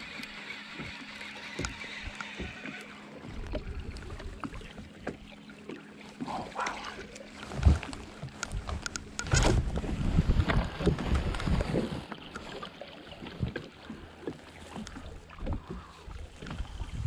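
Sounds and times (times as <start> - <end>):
low wind: 0.0 - 17.0
water rumble: 0.0 - 17.0.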